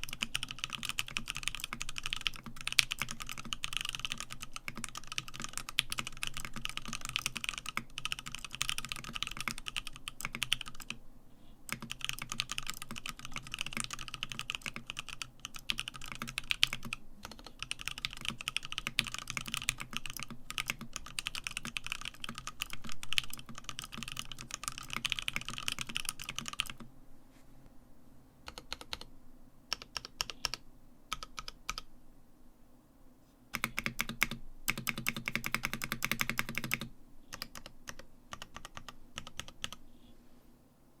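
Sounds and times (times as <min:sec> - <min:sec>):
mechanical keyboard typing: 0:00.0 - 0:11.0, 0:11.7 - 0:26.9, 0:28.5 - 0:29.1, 0:29.7 - 0:31.9, 0:33.5 - 0:39.8.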